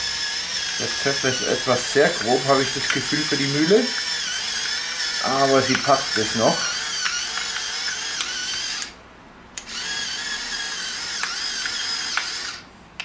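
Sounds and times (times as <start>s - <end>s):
electric pepper mill grinding: 0.0s - 9.0s, 9.6s - 12.6s.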